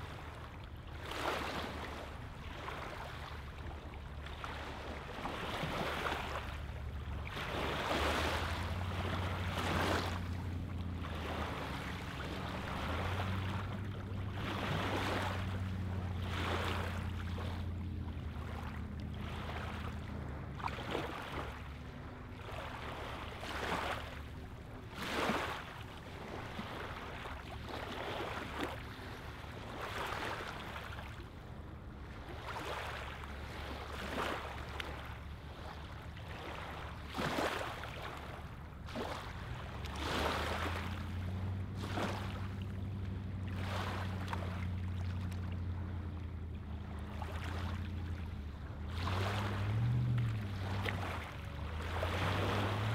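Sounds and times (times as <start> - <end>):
waves lapping on pebbles: 0.0 - 31.2, 32.2 - 52.9.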